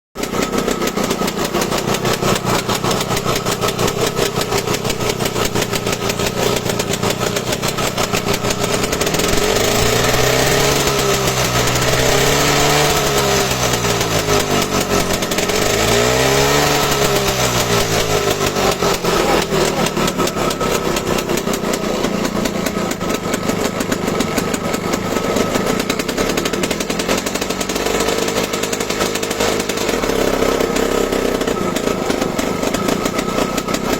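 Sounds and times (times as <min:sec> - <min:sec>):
small petrol engine revving: 0:00.2 - 0:33.9.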